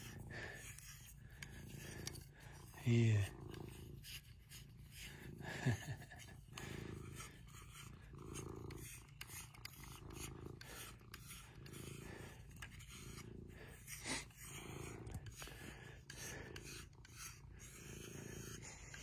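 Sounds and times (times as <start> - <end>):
brush rubbing through fur: 0.0 - 19.0
cat purring: 0.0 - 19.0.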